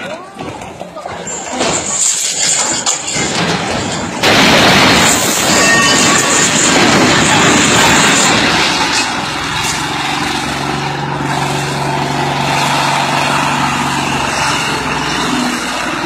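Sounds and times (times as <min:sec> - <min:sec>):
heavy machine engine humming: 0:00.6 - 0:16.0.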